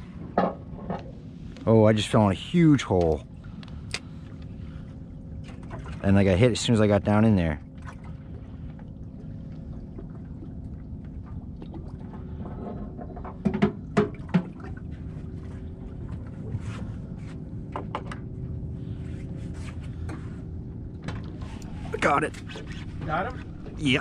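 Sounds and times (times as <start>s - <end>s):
low engine hum: 0.0s - 24.0s
water lapping against boat hull: 0.0s - 24.0s.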